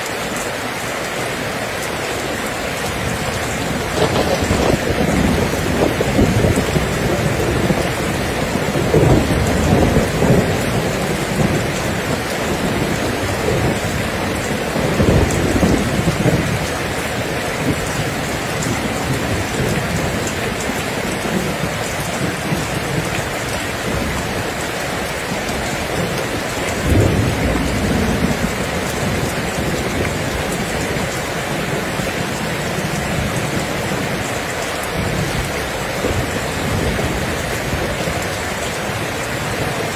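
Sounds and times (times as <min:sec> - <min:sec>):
steady rain falling: 0:00.0 - 0:39.9
thunder rumbling: 0:00.1 - 0:39.9.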